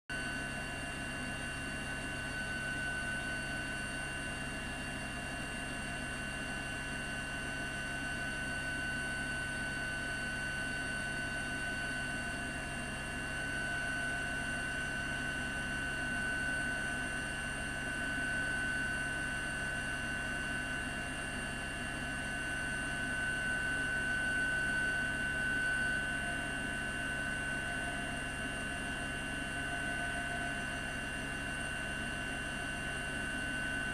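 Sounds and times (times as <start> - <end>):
helicopter drone with high whine: 0.1 - 33.9.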